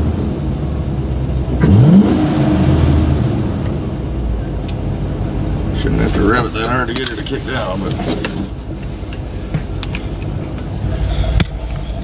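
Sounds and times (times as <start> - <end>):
pickup engine revving and idling: 0.0 - 12.0.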